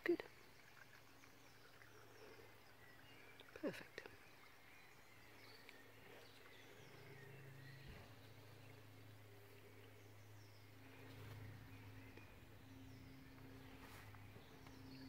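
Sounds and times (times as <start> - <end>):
faint woodland birdsong: 0.0 - 15.0.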